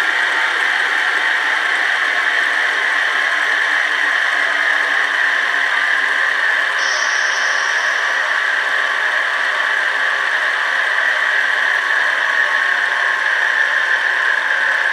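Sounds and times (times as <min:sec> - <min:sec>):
electric train sound from small speaker: 0:00.0 - 0:14.9.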